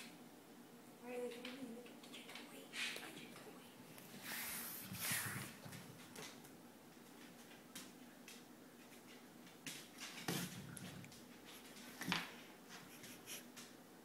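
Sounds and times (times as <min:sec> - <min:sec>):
puppy claws on tile floor: 0:01.2 - 0:13.8.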